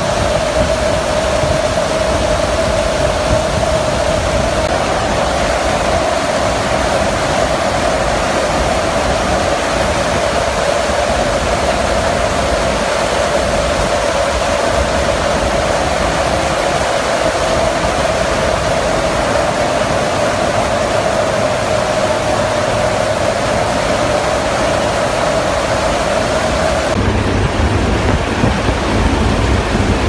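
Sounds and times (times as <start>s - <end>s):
mid-pitched drone: 0.0s - 30.0s
wind and aircraft engine rush: 0.0s - 30.0s.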